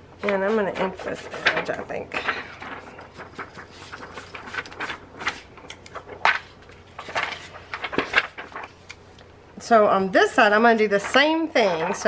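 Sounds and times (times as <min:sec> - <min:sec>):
plastic sheet handled: 0:00.2 - 0:09.2, 0:10.6 - 0:12.0.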